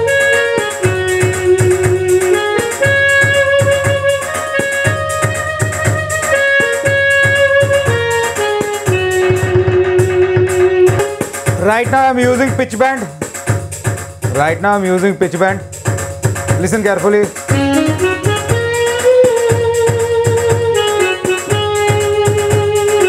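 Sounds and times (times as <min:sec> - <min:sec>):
keyboard rhythm accompaniment: 0:00.0 - 0:23.0
keyboard sax lead melody: 0:00.0 - 0:23.0.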